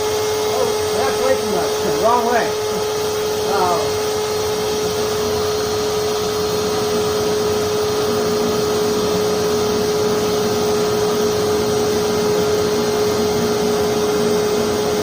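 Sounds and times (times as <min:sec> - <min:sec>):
blower whining: 0:00.0 - 0:15.0
gas burner rushing: 0:00.0 - 0:15.0.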